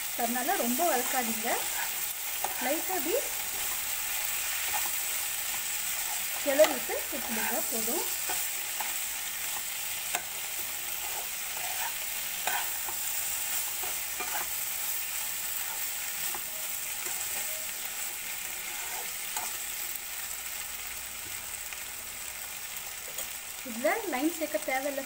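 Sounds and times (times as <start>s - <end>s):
meat and vegetables sizzling in pan: 0.0s - 25.0s.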